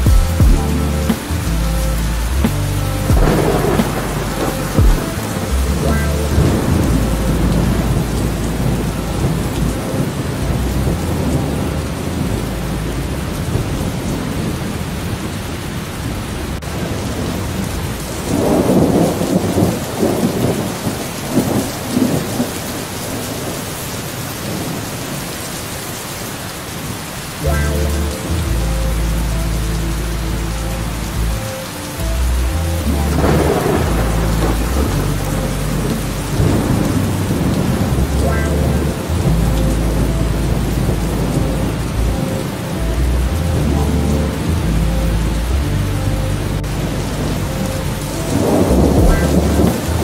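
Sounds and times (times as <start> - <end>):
thunder rumbling: 0.0 - 23.8, 32.1 - 50.0
steady rain: 0.0 - 50.0.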